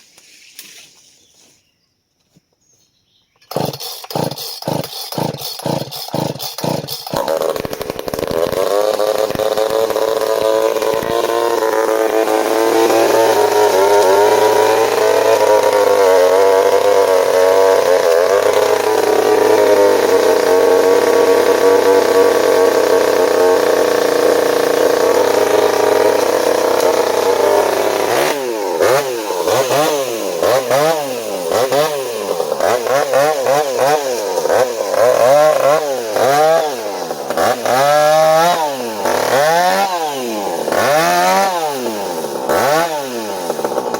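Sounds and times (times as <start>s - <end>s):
chainsaw cutting wood: 3.4s - 43.9s.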